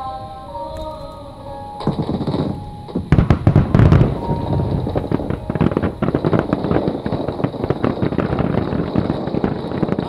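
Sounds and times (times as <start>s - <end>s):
fireworks crackling: 0.0s - 10.0s
firework shells booming: 1.7s - 10.0s.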